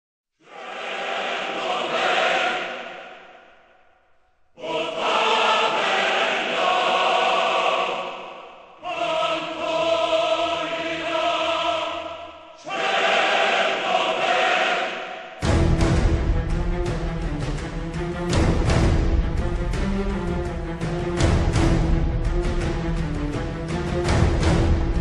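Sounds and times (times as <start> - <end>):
choir chanting: 0.4 - 25.0.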